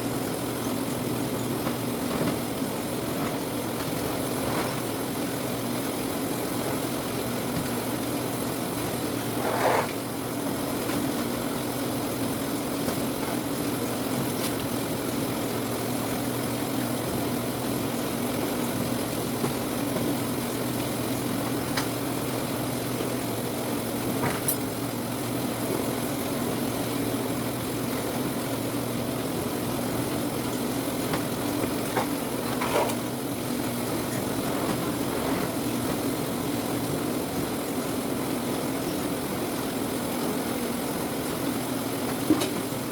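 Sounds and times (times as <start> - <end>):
sorting machine humming: 0.0 - 42.9.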